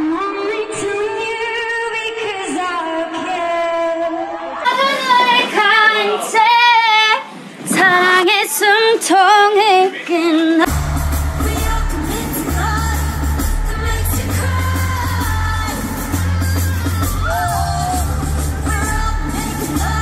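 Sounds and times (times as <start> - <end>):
voice singing with wide vibrato: 0.0 - 20.0.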